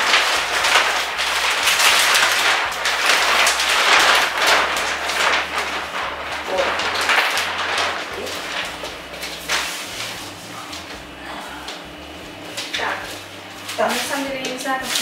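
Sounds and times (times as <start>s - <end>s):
plastic mat crinkling: 0.0s - 15.0s.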